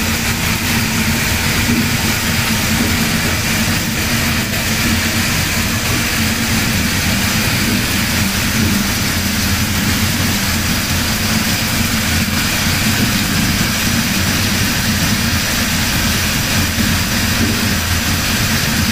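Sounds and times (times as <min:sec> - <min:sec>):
coolant spraying and splashing: 0:00.0 - 0:18.9
machine hum: 0:00.0 - 0:18.9.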